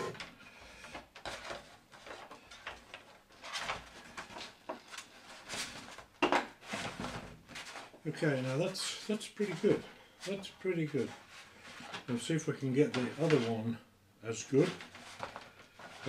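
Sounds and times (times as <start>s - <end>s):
rustling: 0.0s - 13.8s, 14.5s - 16.0s.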